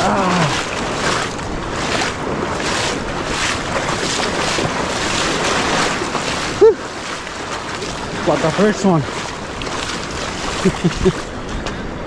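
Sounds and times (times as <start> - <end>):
seawater sloshing around wading legs: 0.0 - 11.8.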